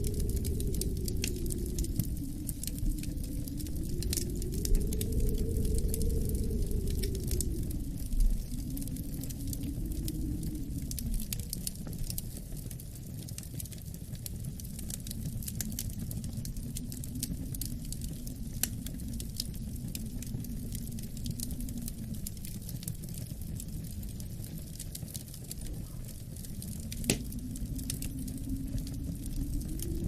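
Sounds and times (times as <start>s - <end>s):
low wind rumble: 0.0s - 30.0s
wood fire crackling and popping: 0.0s - 30.0s.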